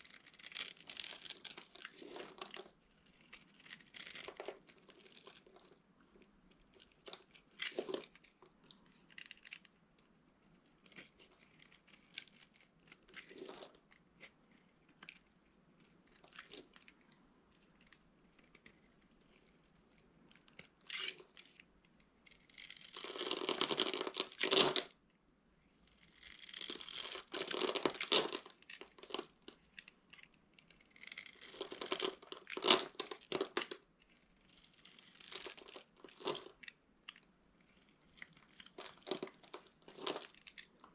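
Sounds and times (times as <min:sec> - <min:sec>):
dry soap crunching and crackling: 0:00.0 - 0:09.7, 0:10.4 - 0:25.0, 0:25.7 - 0:40.9.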